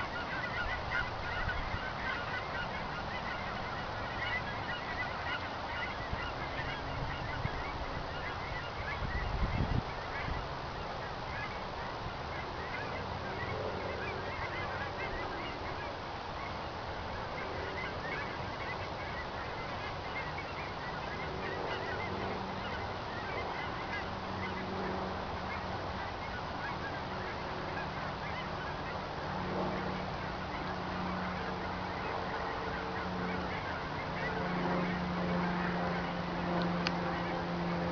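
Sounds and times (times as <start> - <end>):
geese honking: 0.0 - 37.9
low steady drone: 0.0 - 37.9.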